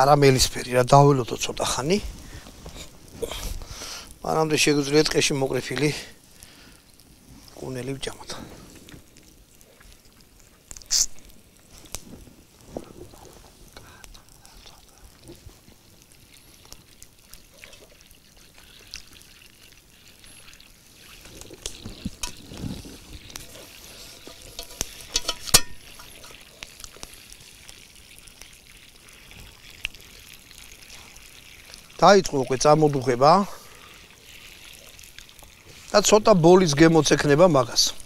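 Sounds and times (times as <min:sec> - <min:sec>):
butter sizzling and bubbling: 0:00.0 - 0:38.0
campfire crackling: 0:00.0 - 0:38.0.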